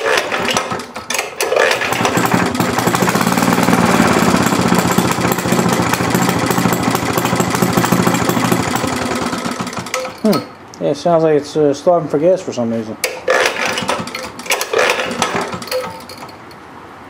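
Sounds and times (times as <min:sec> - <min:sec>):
two-stroke engine running: 0:00.0 - 0:10.5, 0:13.1 - 0:16.3.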